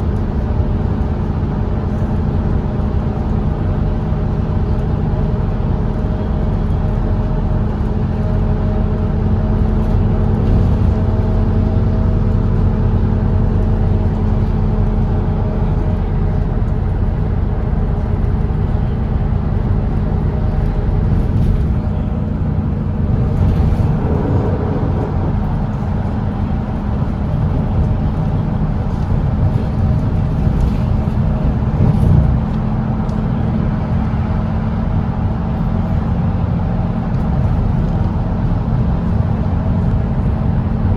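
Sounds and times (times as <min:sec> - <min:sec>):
bus diesel engine droning: 0:00.0 - 0:40.9
road noise: 0:00.0 - 0:40.9.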